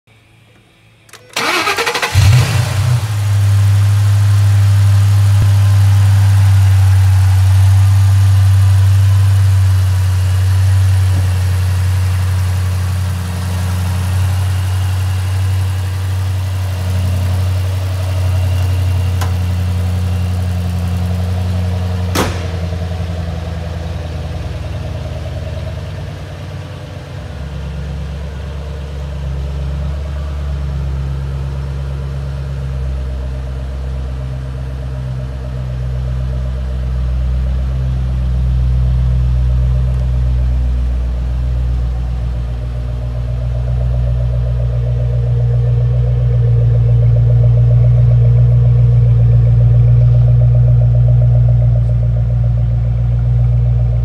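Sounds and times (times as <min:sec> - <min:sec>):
car engine starting and idling: 0:00.2 - 0:54.0.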